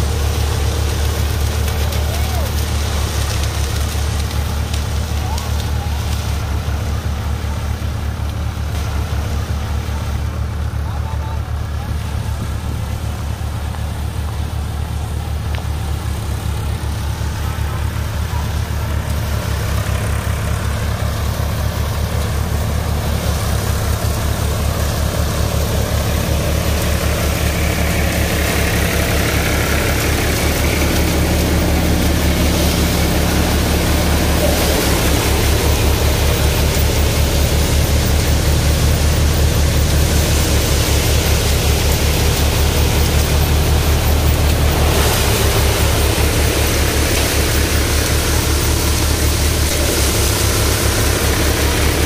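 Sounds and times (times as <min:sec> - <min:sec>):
thresher drum whirring: 0:00.0 - 0:52.0
tractor diesel engine: 0:00.0 - 0:52.0.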